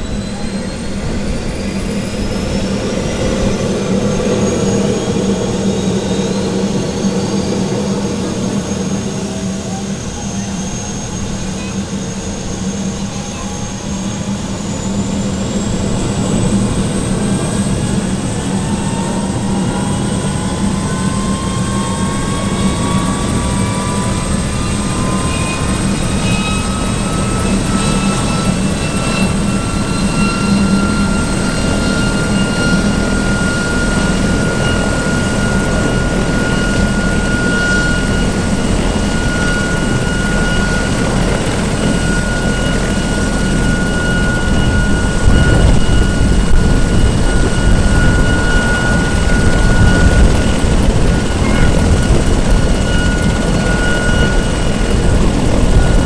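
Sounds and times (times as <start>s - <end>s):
helicopter turbine whining: 0.0s - 56.0s.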